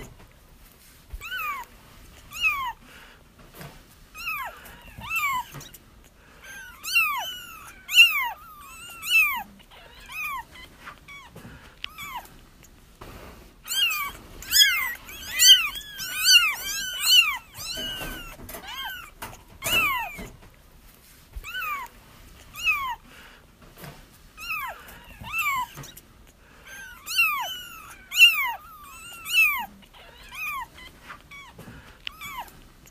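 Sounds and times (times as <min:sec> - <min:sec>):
kittens meowing: 0:01.1 - 0:02.9, 0:03.6 - 0:20.6, 0:21.4 - 0:23.2, 0:23.8 - 0:32.9.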